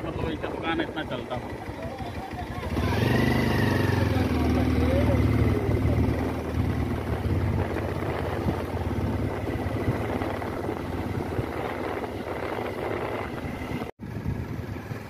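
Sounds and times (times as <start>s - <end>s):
vehicle engine and road rumble: 0.0s - 15.0s
wind buffeting microphone: 2.7s - 15.0s.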